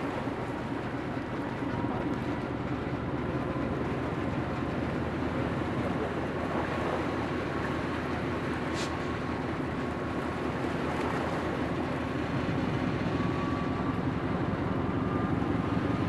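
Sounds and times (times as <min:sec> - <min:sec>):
diesel locomotive idling: 0:00.0 - 0:16.0
faint steady whine: 0:00.0 - 0:16.0.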